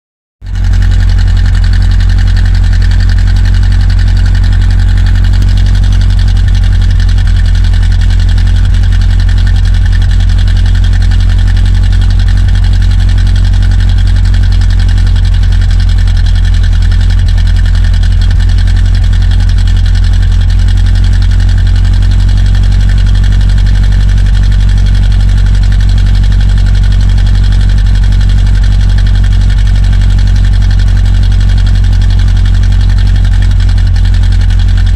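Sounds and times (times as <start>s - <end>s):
car engine idling: 0.4s - 34.9s.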